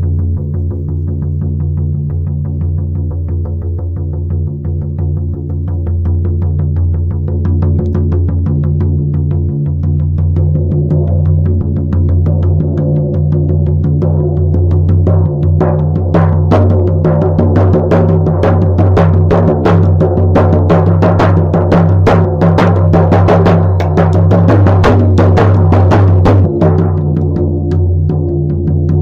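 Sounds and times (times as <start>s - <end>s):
hand drum beating fast: 0.0s - 29.0s.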